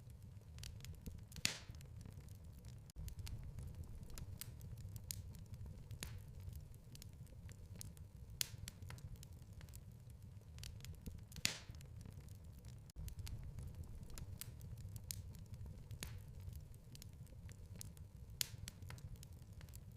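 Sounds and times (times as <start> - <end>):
fire crackling and popping: 0.0 - 19.9
low rumble of flames: 0.0 - 19.9.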